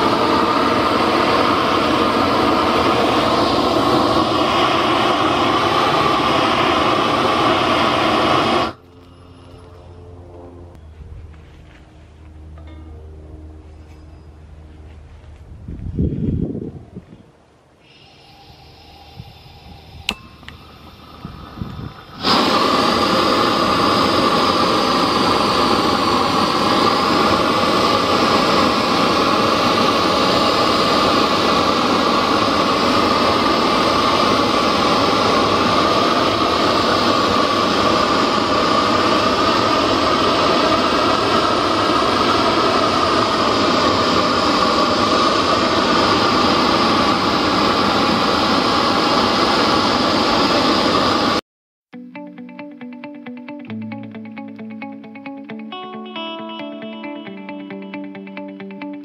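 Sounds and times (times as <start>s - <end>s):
propane torch roaring: 0.0s - 13.7s, 17.8s - 51.4s.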